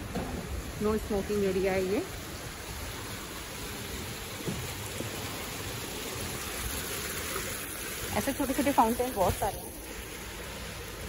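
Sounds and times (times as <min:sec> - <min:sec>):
fountain water splashing into pool: 0:00.0 - 0:11.0.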